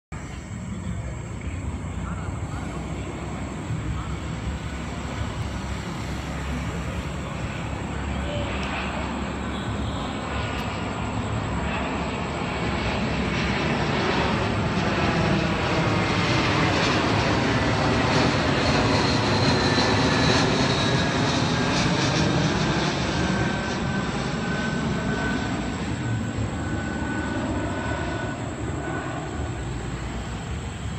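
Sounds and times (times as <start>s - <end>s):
jet engine whine: 0.1s - 30.9s
jetliner roar passing overhead: 0.2s - 30.9s.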